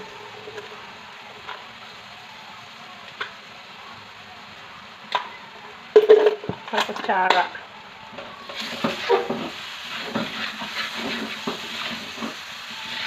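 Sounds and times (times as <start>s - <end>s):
sweet potato sizzling in a wok: 0.0s - 13.0s.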